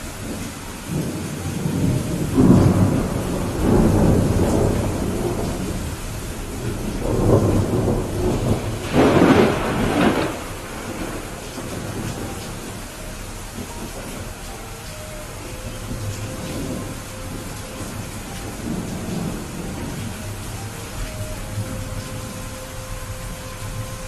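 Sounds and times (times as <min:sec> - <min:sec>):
steady rain: 0:00.0 - 0:24.0
thunder rumbling: 0:00.0 - 0:24.0.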